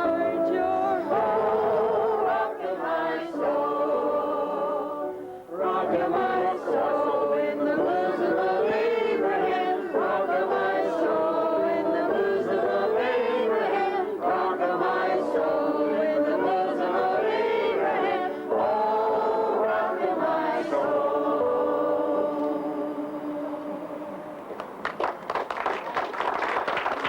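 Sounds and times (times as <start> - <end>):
choir singing: 0.0 - 24.6.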